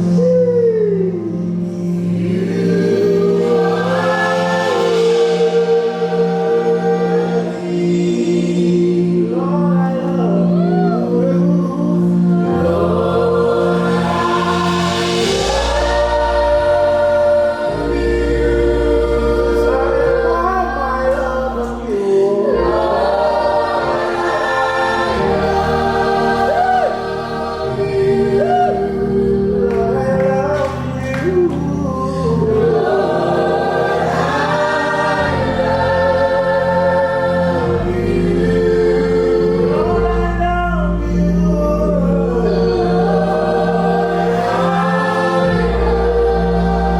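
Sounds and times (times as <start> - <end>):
held bass notes: 0.0 - 46.9
voices singing sustained chords: 0.0 - 46.9.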